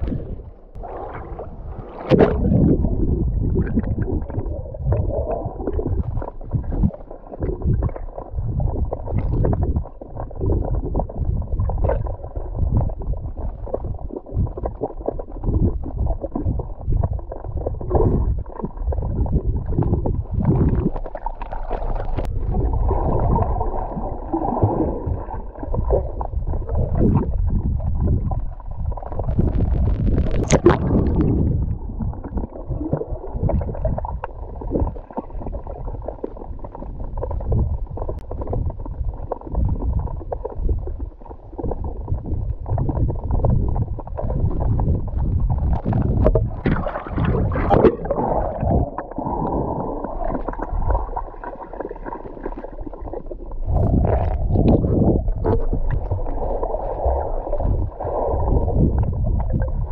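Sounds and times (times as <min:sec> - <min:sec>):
muffled underwater gurgling: 0:00.0 - 0:59.9.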